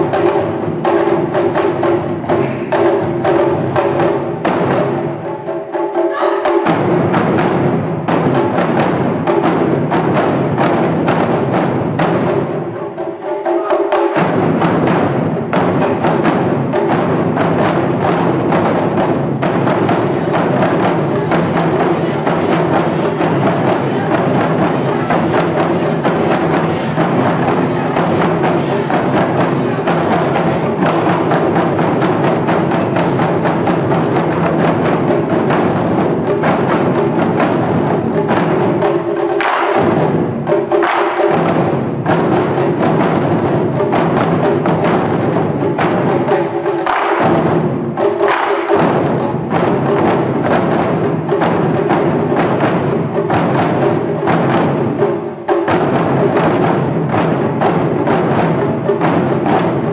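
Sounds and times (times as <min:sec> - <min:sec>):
taiko drums playing: 0:00.0 - 0:59.9.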